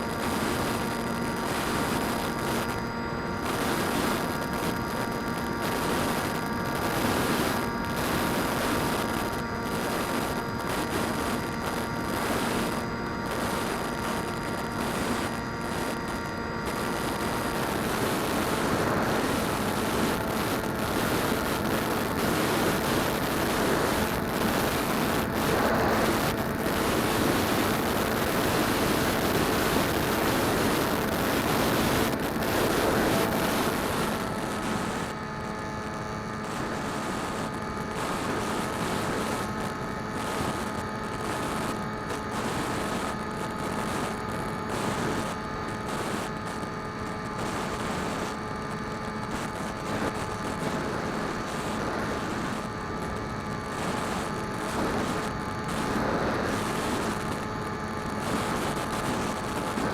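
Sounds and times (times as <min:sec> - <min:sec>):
drone propellers humming: 0:00.0 - 0:59.9
wind rush on microphone: 0:00.0 - 0:59.9.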